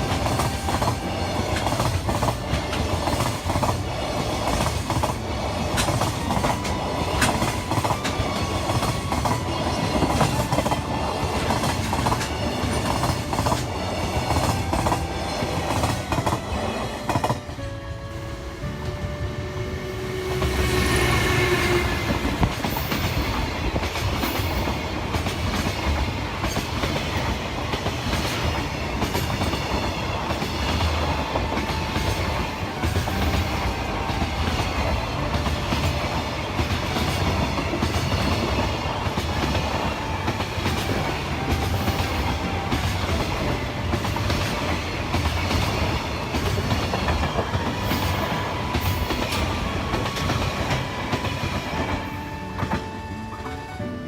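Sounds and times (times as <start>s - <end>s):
train wheels clattering over rail joints: 0.0s - 17.6s, 22.0s - 53.0s.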